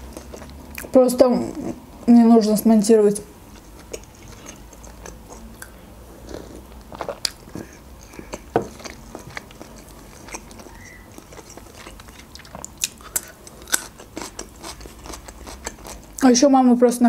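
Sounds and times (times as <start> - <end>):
chewing: 0.0 - 0.9, 3.5 - 16.2.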